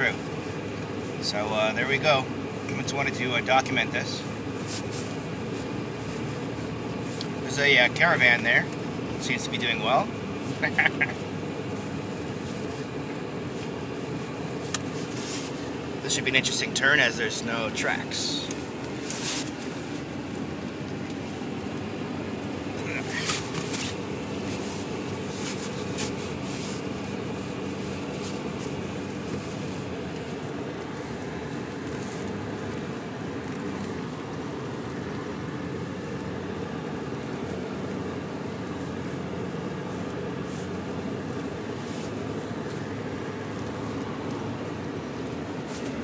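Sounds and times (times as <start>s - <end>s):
engine and tyres drone: 0.0s - 46.0s.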